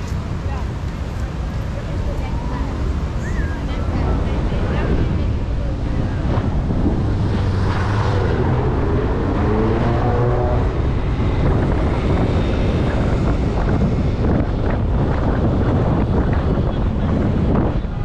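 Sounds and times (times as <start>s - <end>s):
road and wind noise: 0.0s - 18.0s
engine accelerating: 2.3s - 16.8s.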